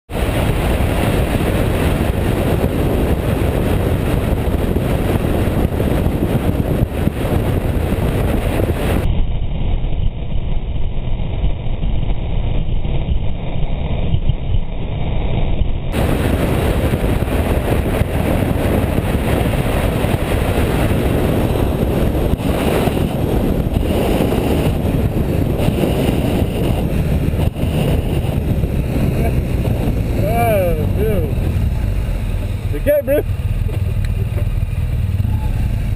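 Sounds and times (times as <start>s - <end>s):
motorcycle engine running: 0.1s - 35.9s
wind rushing on microphone: 0.1s - 35.9s.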